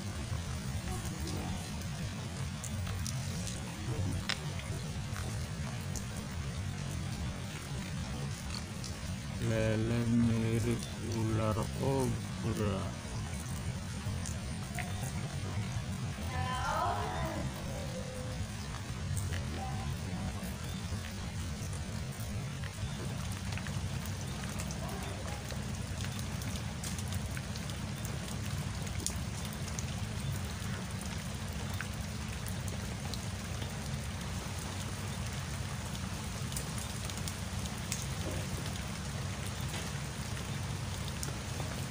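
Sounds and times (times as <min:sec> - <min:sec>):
low continuous rumble: 0:00.0 - 0:41.9
steady rain falling: 0:00.0 - 0:41.9
ticks of raindrops: 0:00.0 - 0:41.9.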